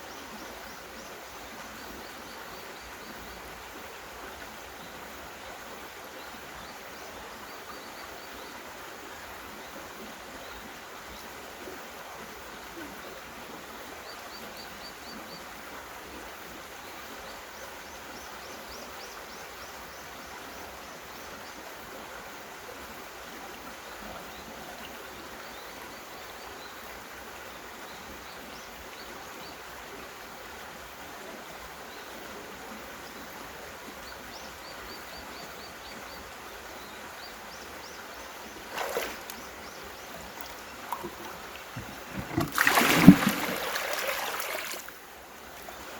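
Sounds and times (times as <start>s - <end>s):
stream running over rocks: 0.0s - 45.9s.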